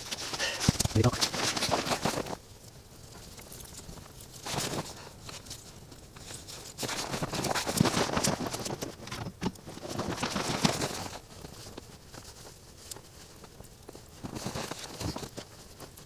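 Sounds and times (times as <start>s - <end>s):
campfire crackling: 0.0s - 14.3s
crunching and rustling: 0.0s - 16.0s.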